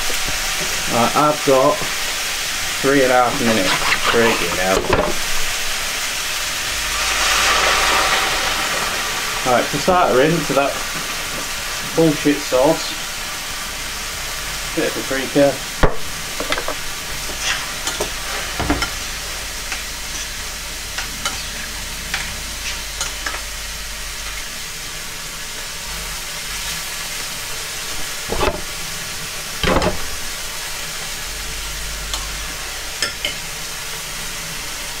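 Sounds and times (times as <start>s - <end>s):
chicken sizzling in a pan: 0.0s - 35.0s.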